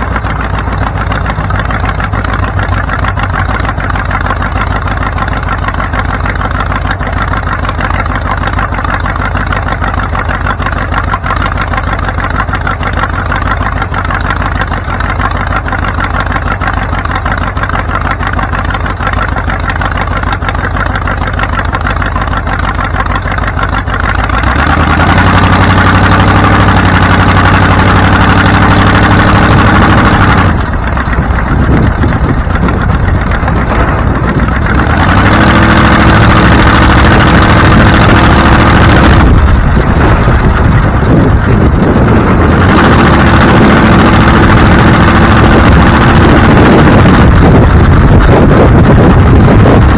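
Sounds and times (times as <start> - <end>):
car engine running: 0.0 - 49.9
road noise: 0.0 - 49.9.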